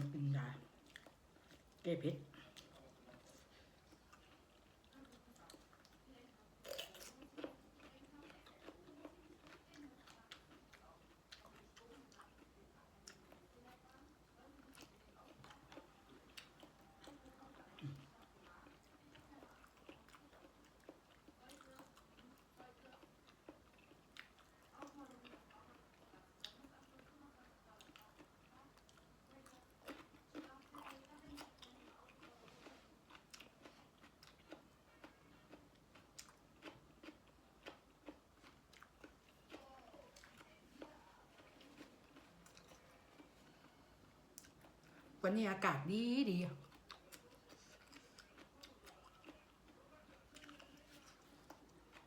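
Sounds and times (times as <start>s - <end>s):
person chewing food: 0.7s - 1.8s, 2.4s - 45.2s, 46.6s - 52.0s.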